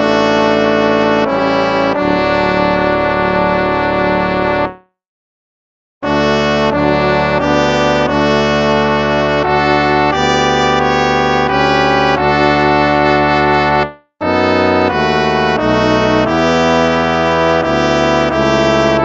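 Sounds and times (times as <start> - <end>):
instrumental hymn chords: 0.0 - 4.8, 6.0 - 19.0.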